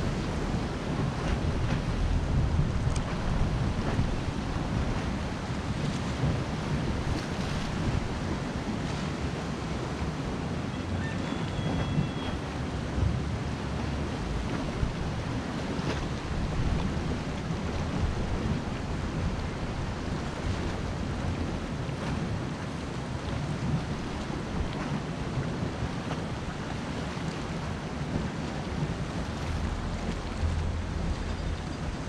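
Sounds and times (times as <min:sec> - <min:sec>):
surf washing against rocks: 0:00.0 - 0:32.0
wind buffeting microphone: 0:00.0 - 0:32.0.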